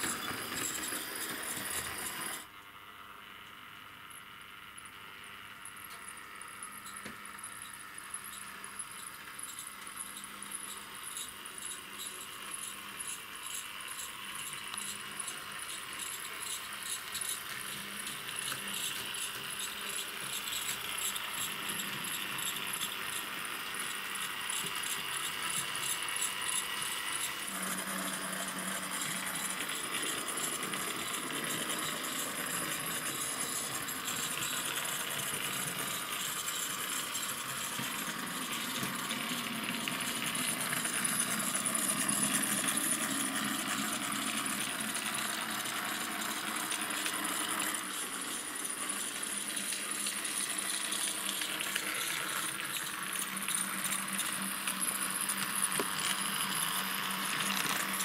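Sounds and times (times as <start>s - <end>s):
model tram motor whir: 0.0s - 2.9s, 4.3s - 58.0s.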